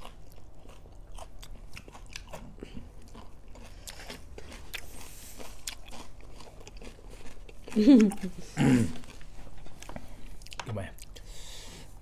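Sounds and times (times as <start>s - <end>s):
chewing and crunching food: 0.0s - 11.3s.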